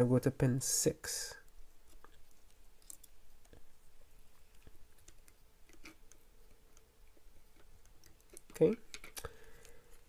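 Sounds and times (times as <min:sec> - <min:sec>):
small clicks and rustles of wires: 0:01.4 - 0:10.0.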